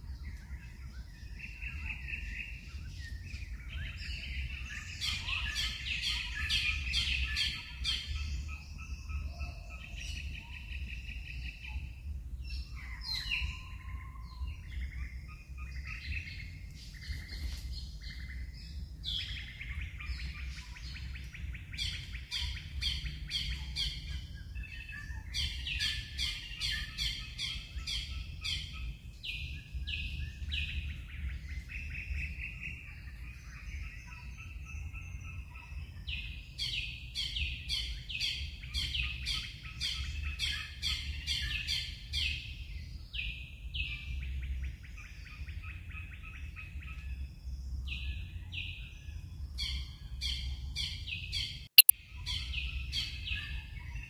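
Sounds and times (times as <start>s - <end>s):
steady low rumble: 0.0s - 51.2s
birds chirping: 0.0s - 54.0s.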